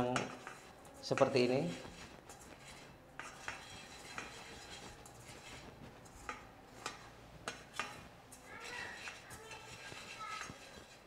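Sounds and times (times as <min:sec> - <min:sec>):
spoon scraping metal frying pan: 0:00.0 - 0:11.0.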